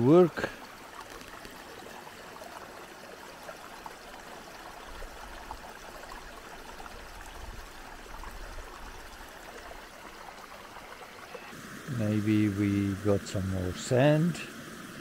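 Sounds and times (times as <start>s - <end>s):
water flowing over stones: 0.0s - 15.0s.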